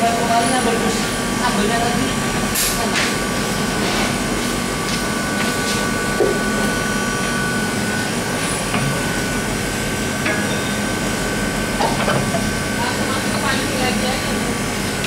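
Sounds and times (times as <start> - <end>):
cooking mixer hum with whine: 0.0 - 15.0.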